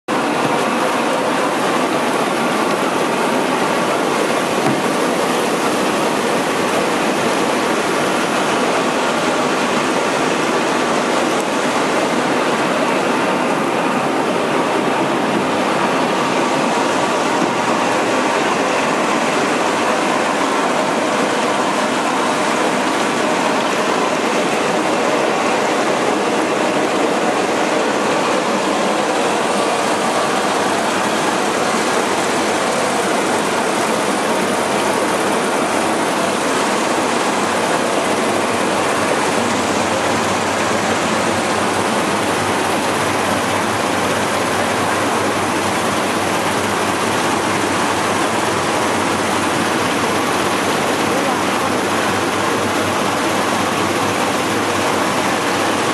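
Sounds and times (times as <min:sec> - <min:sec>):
machine running: 0:00.1 - 0:55.9
water churning and splashing: 0:00.1 - 0:55.9.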